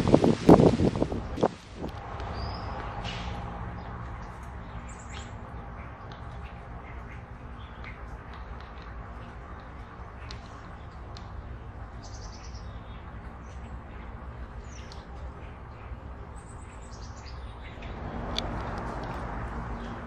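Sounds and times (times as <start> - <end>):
small birds chirping: 1.2 - 20.0.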